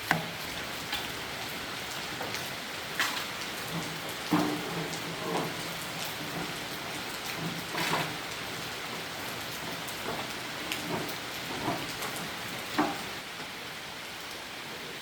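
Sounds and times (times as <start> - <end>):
rain pouring: 0.0 - 15.0.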